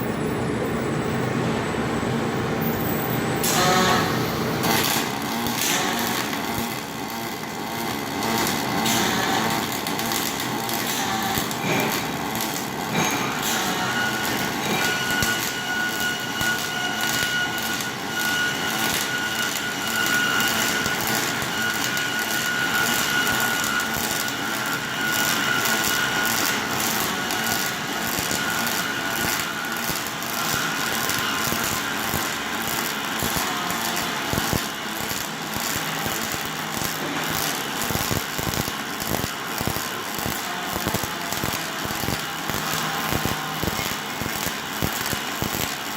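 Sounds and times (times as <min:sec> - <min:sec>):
welding arc crackling buzz: 0:02.2 - 0:45.9.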